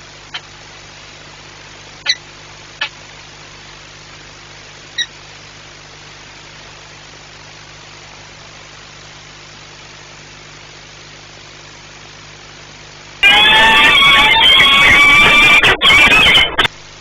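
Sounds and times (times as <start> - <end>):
microphone hiss and hum: 0.0 - 17.0.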